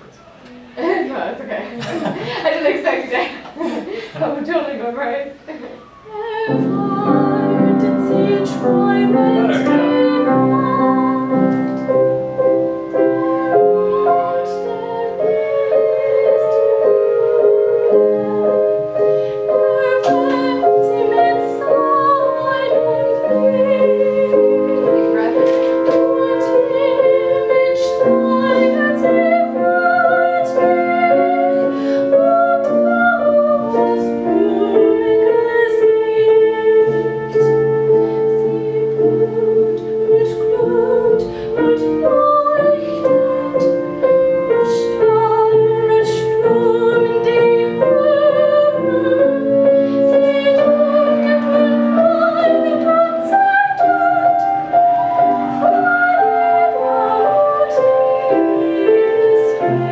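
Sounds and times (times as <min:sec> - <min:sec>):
grand piano: 0:00.0 - 0:59.9
woman singing opera: 0:05.9 - 0:59.9.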